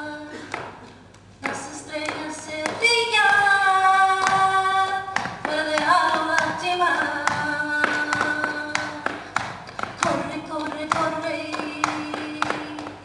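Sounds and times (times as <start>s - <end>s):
woman singing flamenco: 0.0s - 13.0s.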